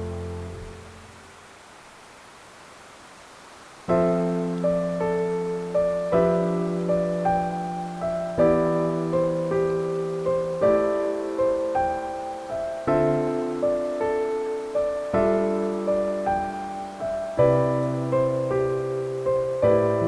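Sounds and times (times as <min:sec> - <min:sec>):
gentle piano music: 0:00.0 - 0:01.3, 0:03.8 - 0:20.0
faint hiss: 0:00.0 - 0:20.0.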